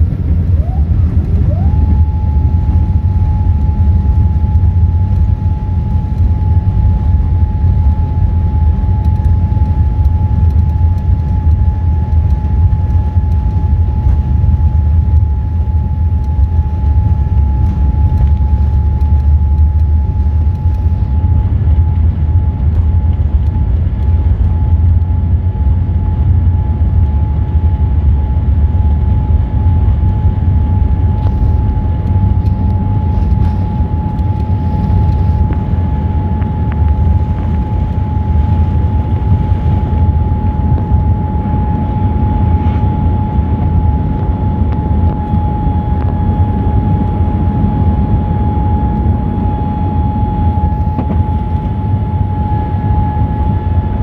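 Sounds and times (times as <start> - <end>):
aircraft cabin engine rumble: 0.0 - 54.0
steady whining tone: 0.0 - 54.0.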